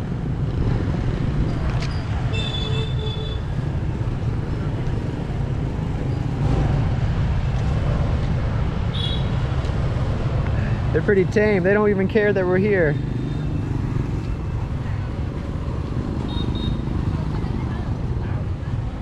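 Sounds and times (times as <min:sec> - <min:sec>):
distant motorbike traffic: 0:00.0 - 0:19.0.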